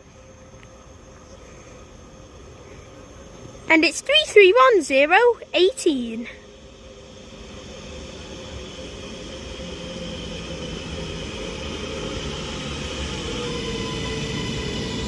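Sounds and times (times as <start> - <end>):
electric train approaching with whine: 0.0 - 15.0.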